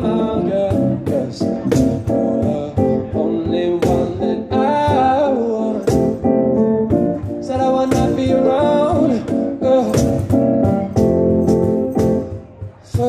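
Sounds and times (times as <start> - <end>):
man singing into a microphone: 0.0 - 10.8, 12.8 - 13.0
electric keyboard: 0.0 - 13.0
strummed guitar: 0.0 - 13.0.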